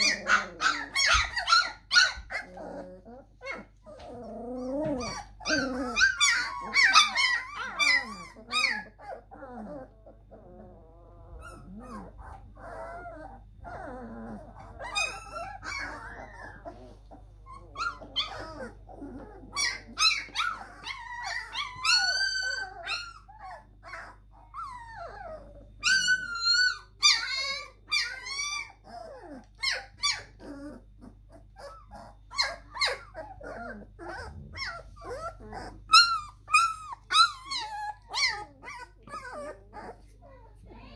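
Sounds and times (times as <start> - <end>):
puppies whining and squealing: 0.0 - 40.9.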